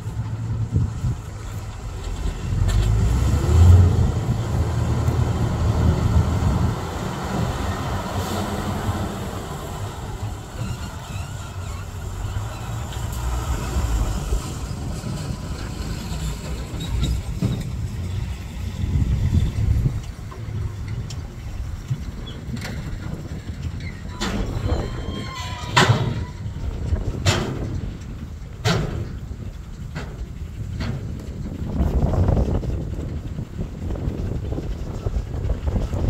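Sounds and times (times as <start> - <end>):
diesel truck engine under load: 0.0 - 36.0.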